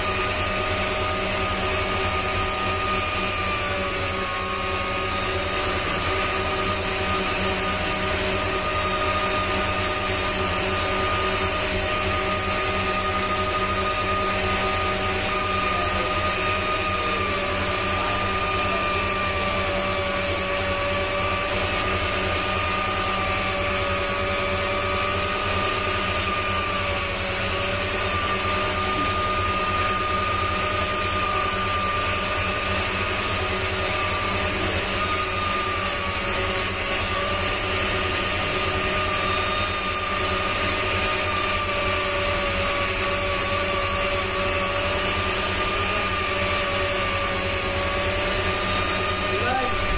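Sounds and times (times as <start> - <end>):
micromotor handpiece whining: 0.0 - 49.9.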